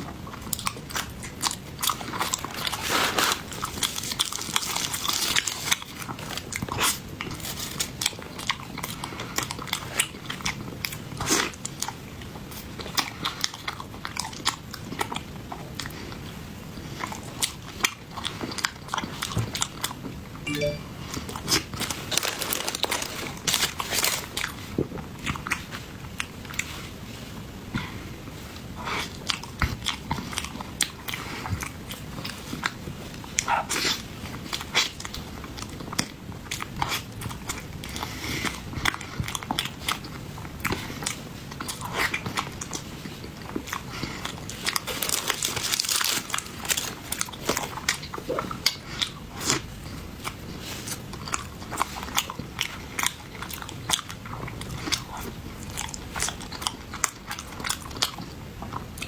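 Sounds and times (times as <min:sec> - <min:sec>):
chewing with mouth clicks: 0:00.0 - 0:20.8, 0:23.4 - 0:59.0.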